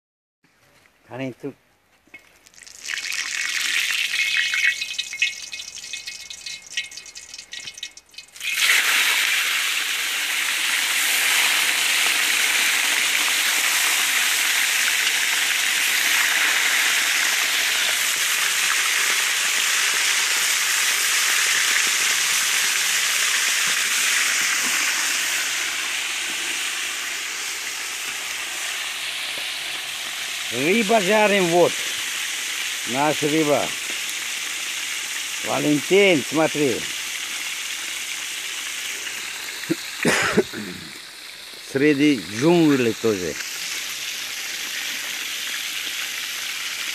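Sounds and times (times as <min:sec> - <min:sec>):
fish sizzling in hot oil: 0:02.4 - 0:46.9.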